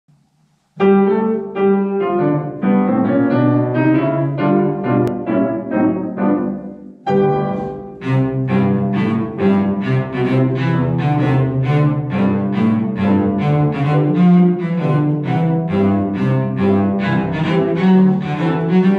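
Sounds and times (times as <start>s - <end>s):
bowed cello: 0.8s - 18.9s
ragtime piano: 0.8s - 18.9s.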